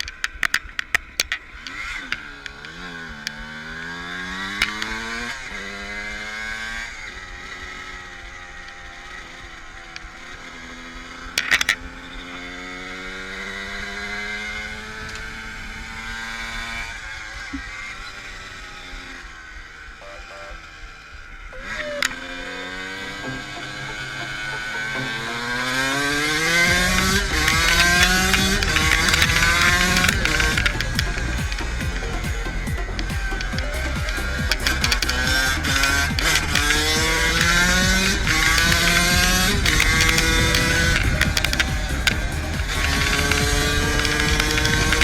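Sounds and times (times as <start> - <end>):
sharp clatters: 0.0 - 15.2, 21.6 - 45.0
dirt bike engine revving: 1.3 - 45.0.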